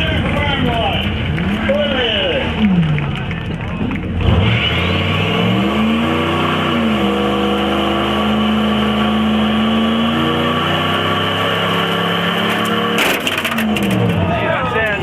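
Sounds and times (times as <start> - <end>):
truck engine at high revs: 0.0 - 14.9
tire spinning: 0.0 - 15.0.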